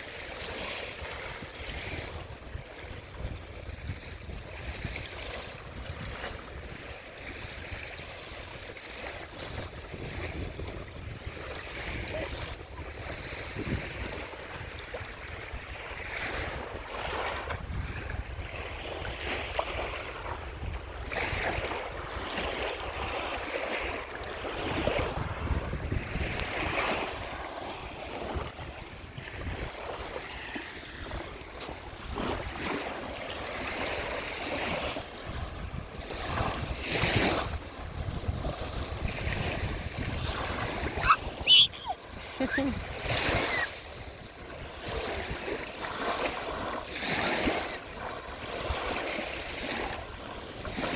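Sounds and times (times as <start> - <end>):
ocean surf washing on beach: 0.0 - 50.9
wind buffeting microphone: 0.0 - 50.9.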